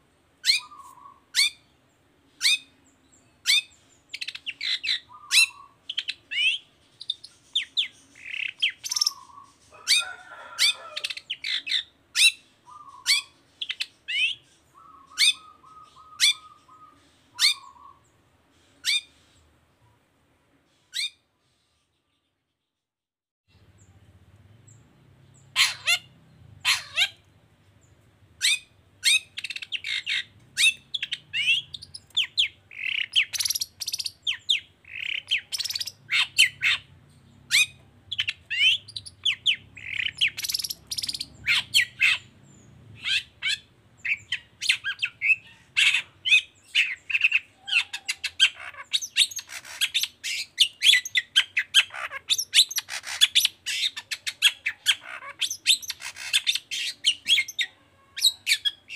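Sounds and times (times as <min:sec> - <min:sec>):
bird chattering song: 0:00.4 - 0:19.5, 0:23.5 - 0:58.9.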